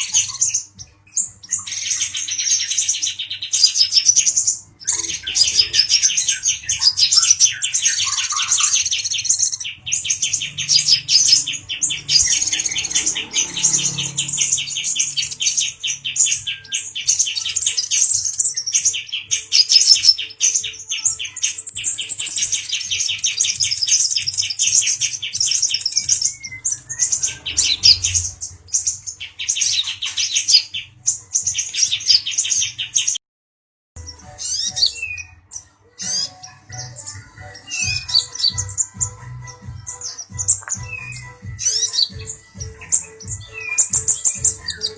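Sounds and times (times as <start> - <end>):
sunbird trilling song: 0.0 - 33.2, 34.0 - 44.9.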